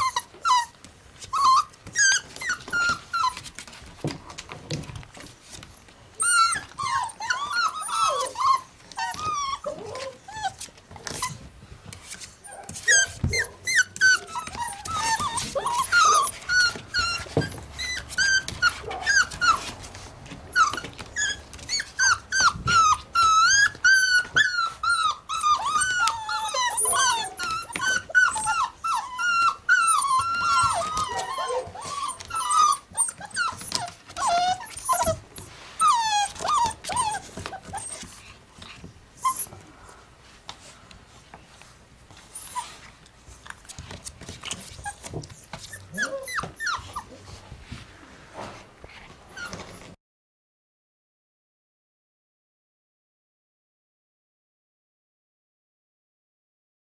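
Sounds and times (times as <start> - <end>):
puppies whining and yipping: 0.0 - 40.0, 42.1 - 47.8, 48.9 - 50.0.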